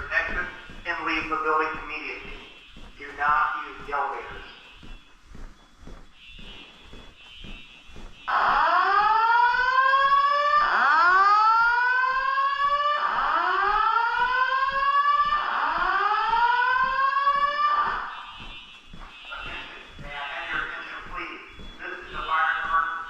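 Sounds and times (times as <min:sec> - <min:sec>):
fire alarm whoop tone: 0:00.0 - 0:23.0.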